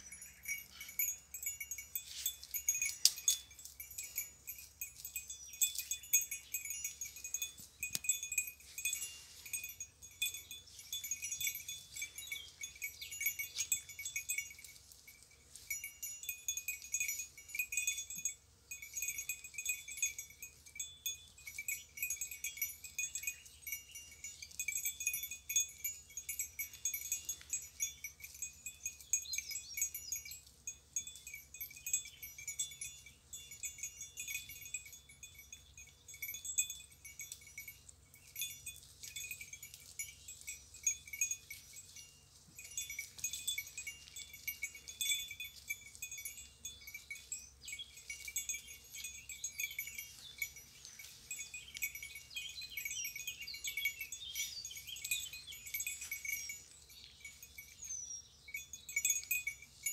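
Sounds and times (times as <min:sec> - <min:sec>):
goat bells jingling: 0:00.0 - 0:59.9.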